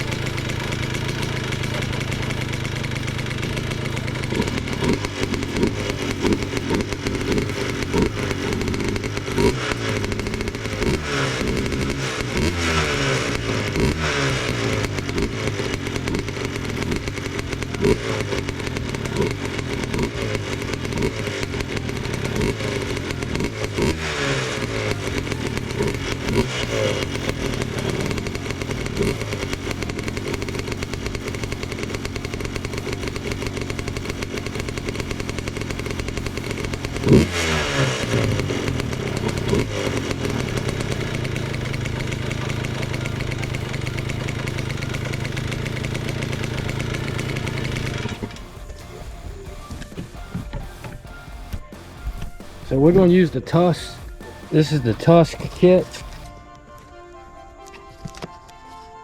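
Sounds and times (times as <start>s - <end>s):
two-stroke engine idling and revving: 0.0s - 56.6s.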